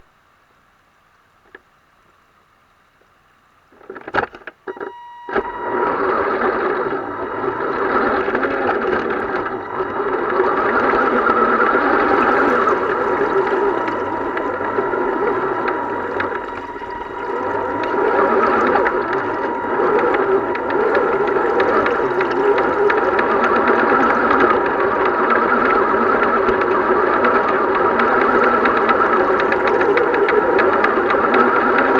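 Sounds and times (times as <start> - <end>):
steady high whine: 4.6 - 31.9.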